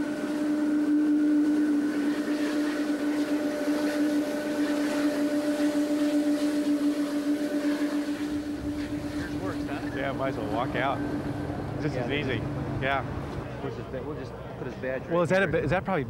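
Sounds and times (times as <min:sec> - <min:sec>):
jet engines droning and whining: 0:00.0 - 0:16.0.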